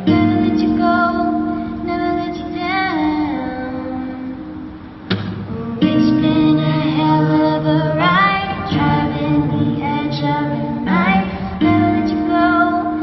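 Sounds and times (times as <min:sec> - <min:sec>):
woman singing pop song: 0:00.0 - 0:04.7, 0:05.6 - 0:13.0
guitar chords: 0:00.0 - 0:13.0.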